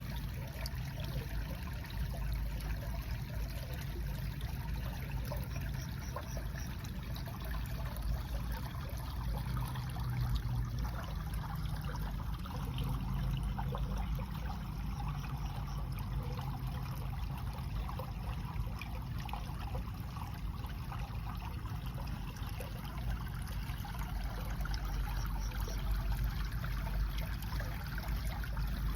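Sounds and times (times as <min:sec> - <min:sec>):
water running and trickling: 0:00.0 - 0:28.9.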